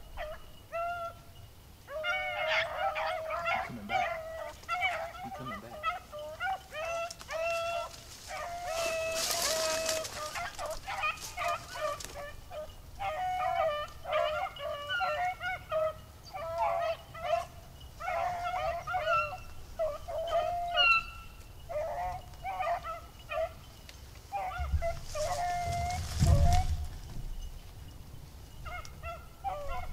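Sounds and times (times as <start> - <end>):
hounds baying: 0.0 - 29.9.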